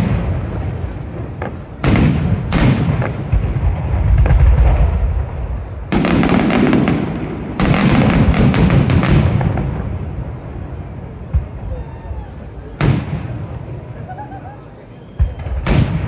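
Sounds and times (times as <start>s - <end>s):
fireworks booming: 0.0s - 16.0s
fireworks crackling: 0.0s - 16.0s.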